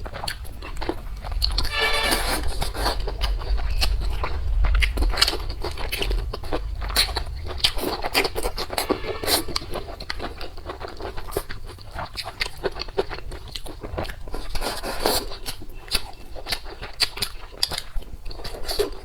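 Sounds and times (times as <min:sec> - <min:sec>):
chewing with crunches: 0:00.0 - 0:19.0.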